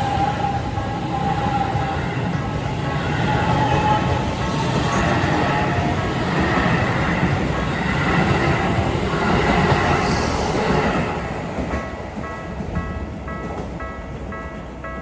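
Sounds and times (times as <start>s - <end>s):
crossing warning bell: 0.0s - 15.0s
train wheels on rail: 0.0s - 15.0s.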